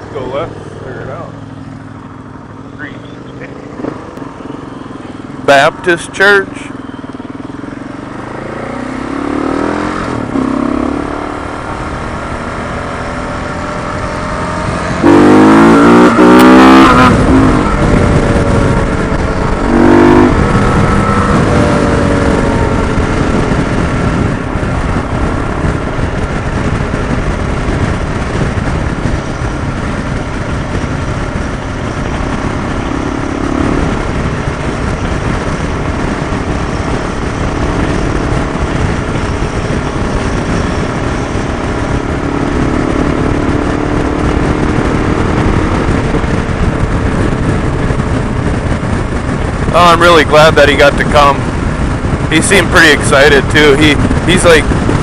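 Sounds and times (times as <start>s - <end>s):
motorcycle engine accelerating: 0.0s - 55.0s
wind rushing: 7.6s - 55.0s.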